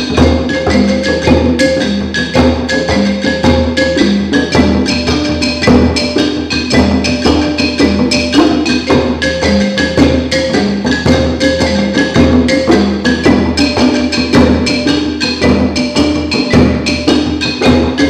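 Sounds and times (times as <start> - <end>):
hand drums: 0.0 - 18.0
wooden xylophones: 0.0 - 18.0.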